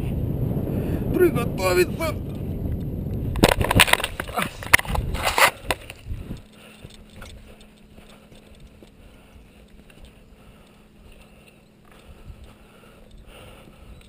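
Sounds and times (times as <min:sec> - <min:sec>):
faint steady hum: 0:00.0 - 0:14.0
gusty wind buffeting microphone: 0:00.0 - 0:14.0.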